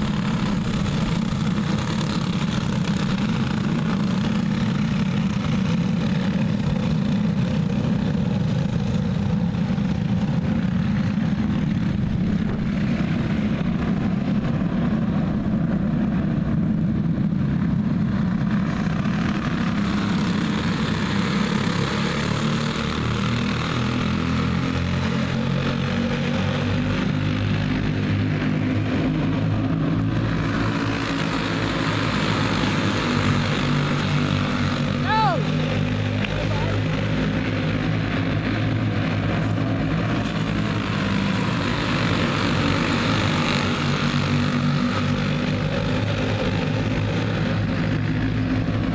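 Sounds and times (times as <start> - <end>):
racing kart engines buzzing: 0.0 - 48.9.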